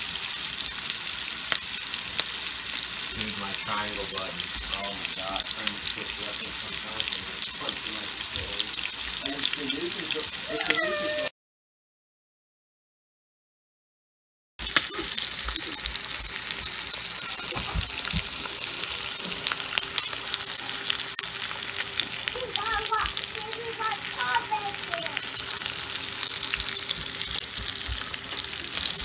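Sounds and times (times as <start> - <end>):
steak sizzling in butter: 0.0 - 11.3, 14.6 - 29.0.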